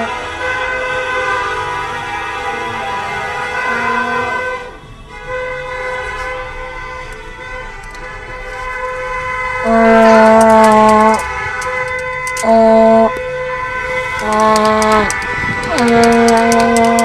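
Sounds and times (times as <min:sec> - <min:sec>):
car horns honking: 0:00.0 - 0:17.0
plastic fan horn blare: 0:00.0 - 0:17.0.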